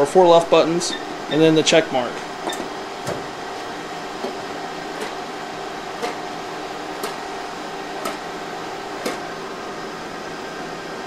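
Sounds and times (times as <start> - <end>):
machine fans humming: 0.0 - 11.0.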